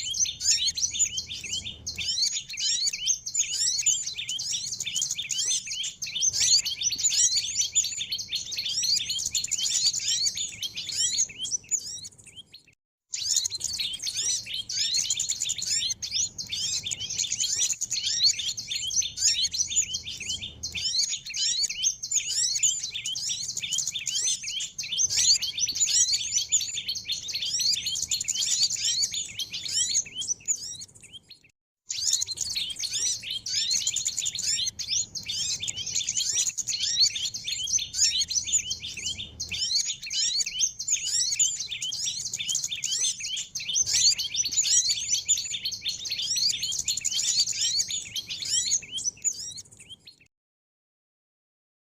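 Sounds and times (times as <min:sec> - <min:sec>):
songbirds twittering chirps: 0:00.0 - 0:50.3.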